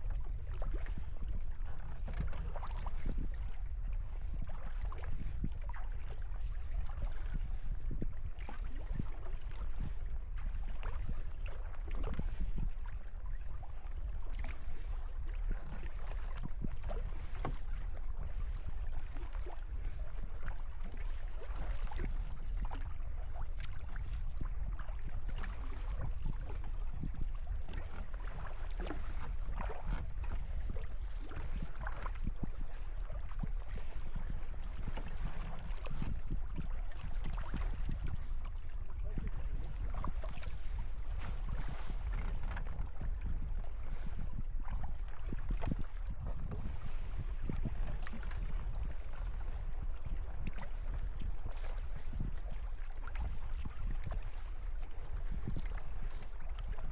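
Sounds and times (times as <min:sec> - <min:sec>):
water splashing around kayak: 0:00.0 - 0:56.9
wind rumble on microphone: 0:00.0 - 0:56.9.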